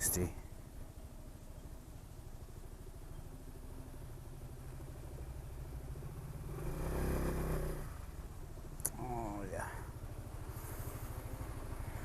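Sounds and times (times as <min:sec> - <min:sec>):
scooter engine idling: 0:00.3 - 0:12.0.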